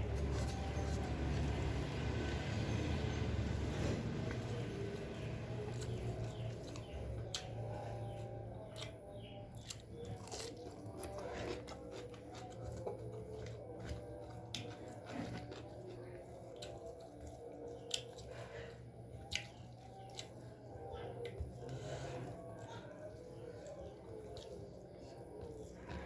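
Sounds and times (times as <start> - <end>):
person chewing: 0.0 - 26.0
steady low hum: 0.0 - 26.0.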